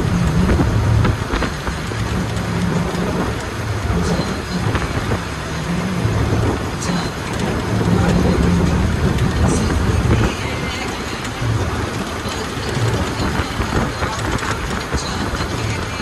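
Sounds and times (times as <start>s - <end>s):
bus engine hum: 0.0s - 16.0s
road and wind hiss: 0.0s - 16.0s.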